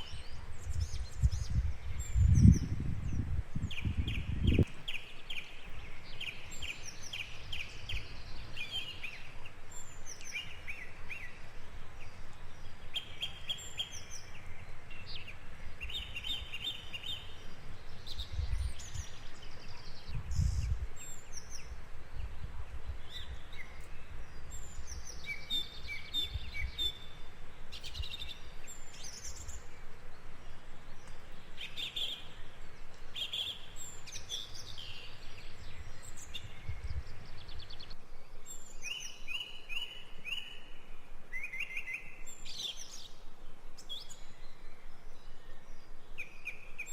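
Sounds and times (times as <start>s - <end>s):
songbirds singing and chirping: 0.0s - 46.9s
steady background hiss: 0.0s - 46.9s.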